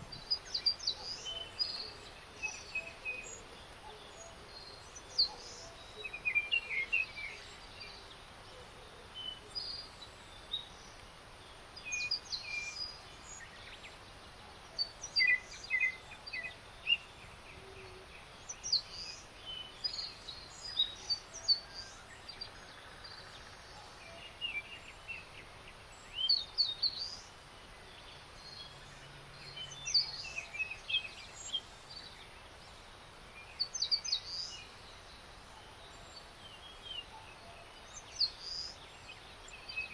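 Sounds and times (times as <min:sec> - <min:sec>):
faint outdoor hiss: 0:00.0 - 0:39.9
songbirds chirping: 0:00.0 - 0:39.9.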